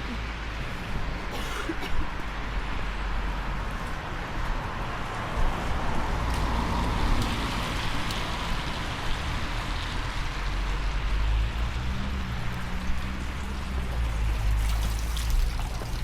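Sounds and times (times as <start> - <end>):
steady rain falling: 2.1 - 15.5.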